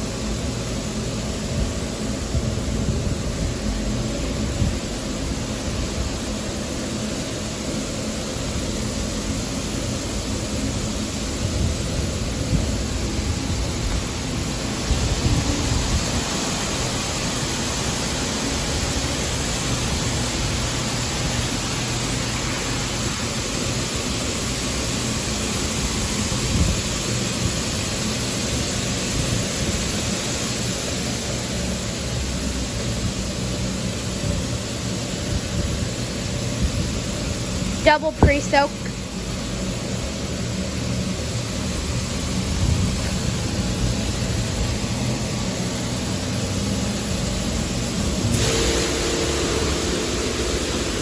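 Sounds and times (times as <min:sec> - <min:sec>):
car wash spray hissing: 0:00.0 - 0:51.0.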